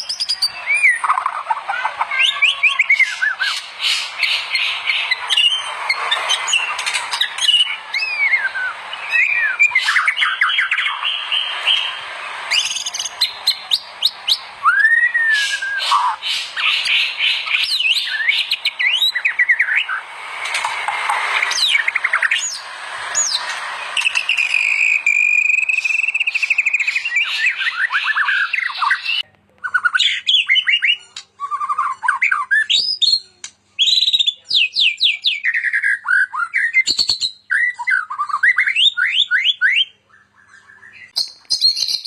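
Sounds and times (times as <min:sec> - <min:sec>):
songbird singing: 0:00.0 - 0:33.0, 0:33.8 - 0:42.0.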